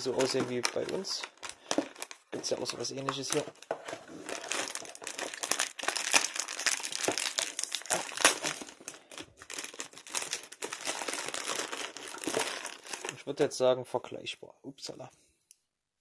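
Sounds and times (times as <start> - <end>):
plastic wrapper crackling: 0.0 - 13.3.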